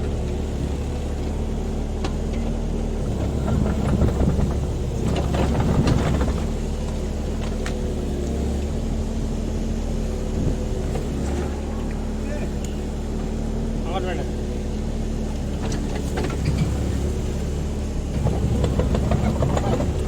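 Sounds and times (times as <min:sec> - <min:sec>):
mini excavator diesel engine: 0:00.0 - 0:20.0.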